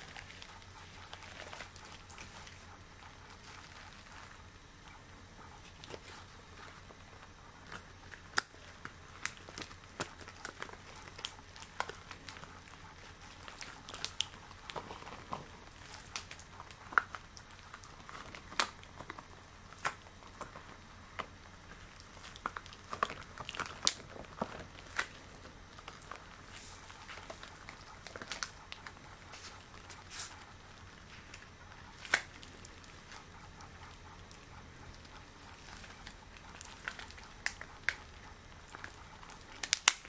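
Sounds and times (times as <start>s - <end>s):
latex gloves crinkling: 0.0s - 40.0s.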